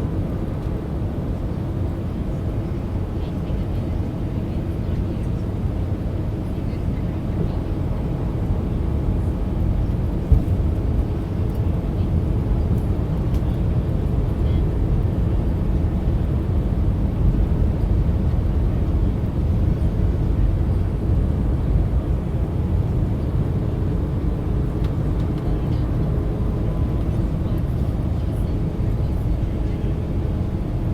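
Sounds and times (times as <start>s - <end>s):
airliner cabin engine rumble: 0.0s - 30.9s.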